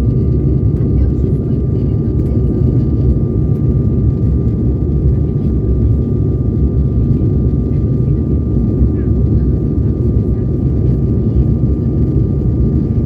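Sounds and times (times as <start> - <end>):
jet cabin low rumble: 0.0 - 13.0.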